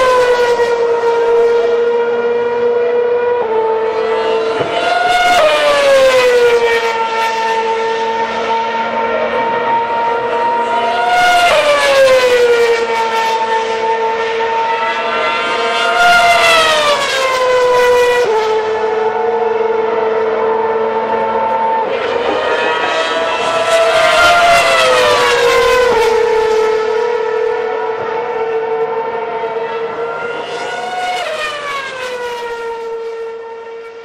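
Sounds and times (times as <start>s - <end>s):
racing car engine drone: 0.0s - 34.0s.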